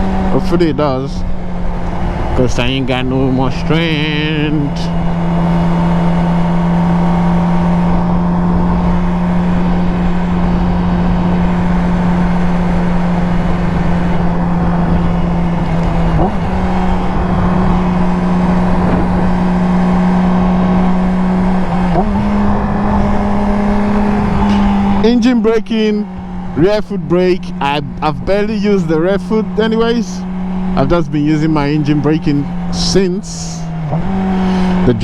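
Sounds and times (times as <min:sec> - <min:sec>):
motorcycle engine cruising: 0:00.0 - 0:35.0
wind and road noise: 0:00.0 - 0:35.0.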